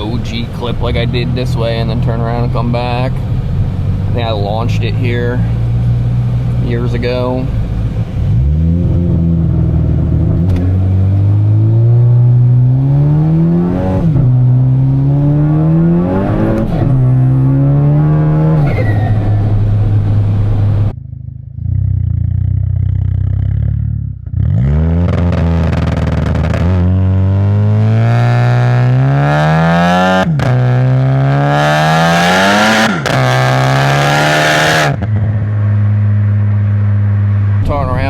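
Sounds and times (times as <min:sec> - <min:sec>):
turbocharged car engine revving: 0:00.0 - 0:21.0, 0:21.6 - 0:38.0.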